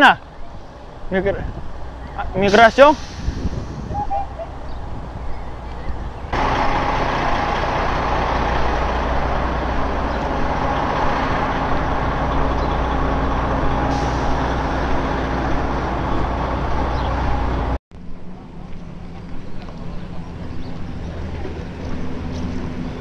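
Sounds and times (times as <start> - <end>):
diesel truck engine running: 0.6 - 23.0.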